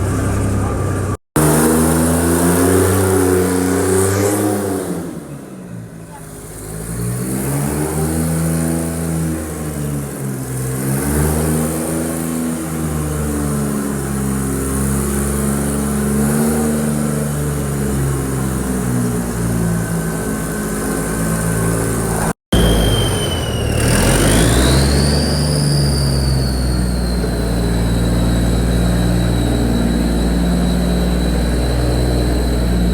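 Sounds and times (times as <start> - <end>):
truck engine revving: 0.0 - 32.9.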